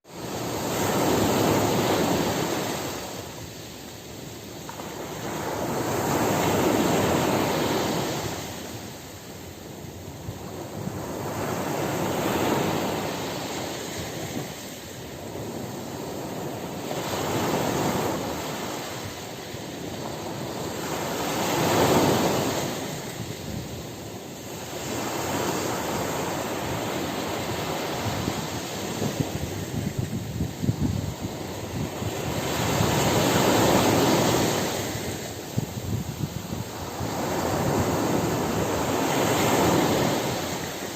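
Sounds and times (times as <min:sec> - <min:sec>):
sea waves breaking on shore: 0:00.1 - 0:40.9.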